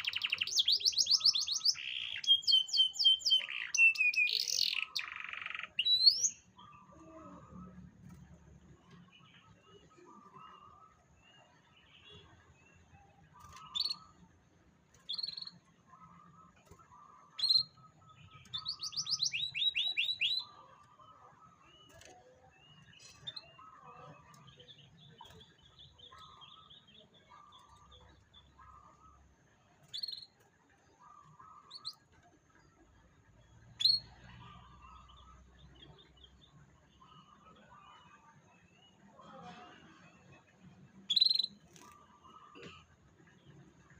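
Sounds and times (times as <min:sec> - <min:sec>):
canary chirping and trilling: 0:00.0 - 0:39.0, 0:40.4 - 0:42.6.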